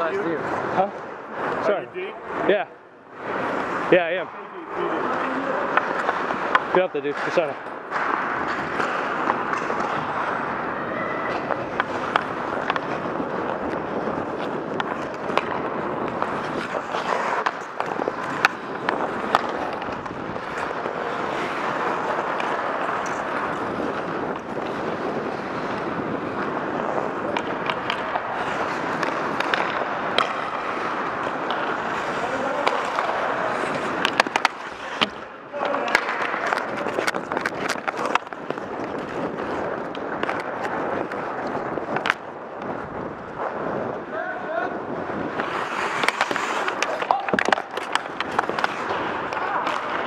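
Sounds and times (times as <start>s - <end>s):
ice skate blades scraping: 0.0s - 2.5s, 3.1s - 44.1s, 44.8s - 50.0s
hockey sticks and puck clacking: 3.2s - 50.0s.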